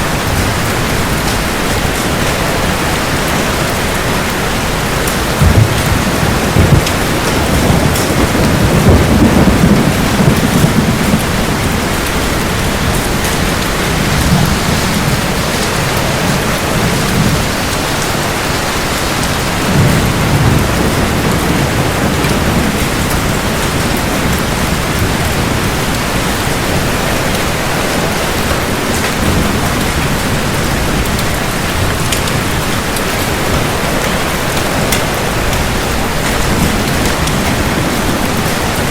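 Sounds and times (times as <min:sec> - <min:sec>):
heavy rain: 0:00.0 - 0:38.9
rolling thunder: 0:00.0 - 0:38.9.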